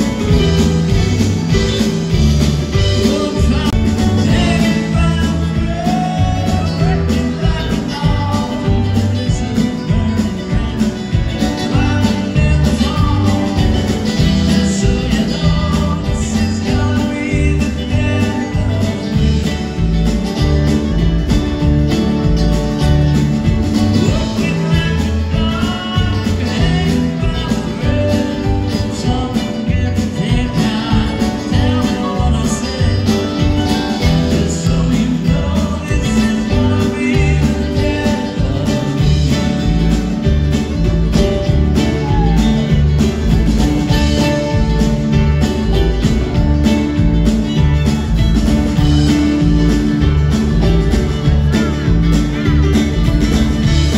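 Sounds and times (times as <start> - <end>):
live country band playing: 0.0 - 53.9
man singing: 0.0 - 53.9.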